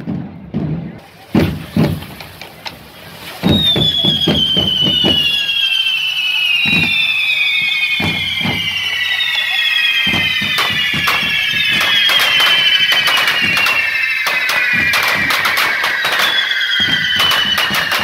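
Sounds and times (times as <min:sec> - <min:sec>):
firecracker cracks: 0:01.3 - 0:18.0
shrill whistles sliding down in pitch: 0:03.4 - 0:18.0.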